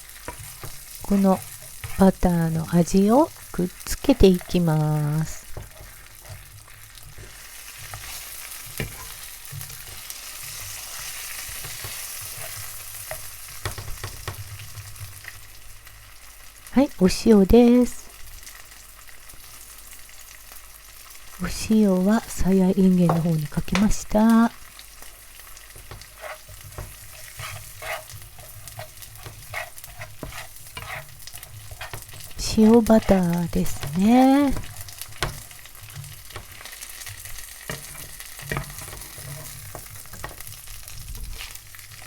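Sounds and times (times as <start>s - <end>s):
food sizzling in frying pan: 0.0s - 42.0s.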